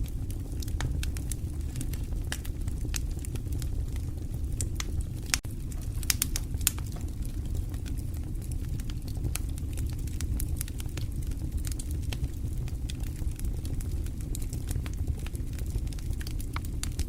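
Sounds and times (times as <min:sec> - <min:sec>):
burning logs crackling and popping: 0:00.0 - 0:17.0
low rumble of flame: 0:00.0 - 0:17.0.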